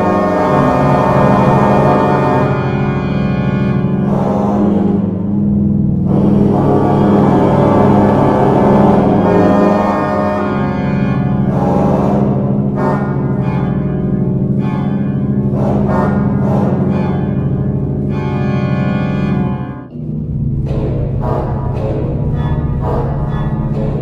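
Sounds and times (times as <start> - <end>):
pipe organ chords: 0.0 - 24.0.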